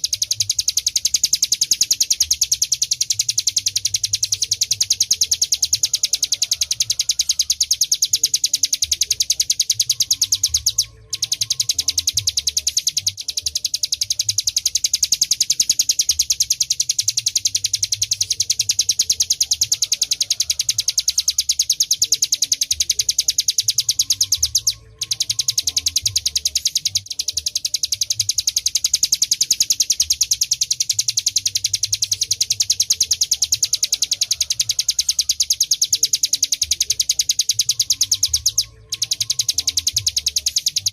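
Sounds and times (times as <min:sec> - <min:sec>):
bird singing high repeated notes: 0:00.0 - 0:40.9.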